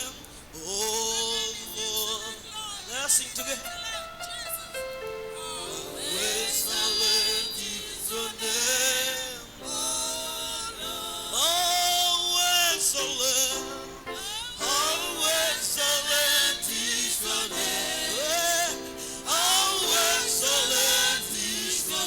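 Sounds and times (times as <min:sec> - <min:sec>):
voices singing held notes: 0:00.0 - 0:22.0.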